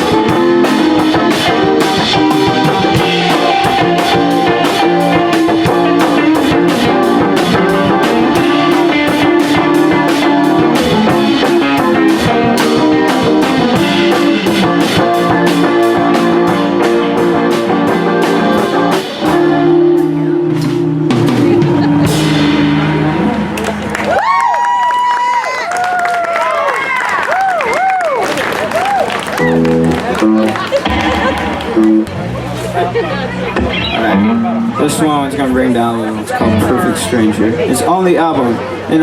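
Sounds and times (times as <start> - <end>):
rock band playing: 0.0 - 24.3, 28.6 - 38.1.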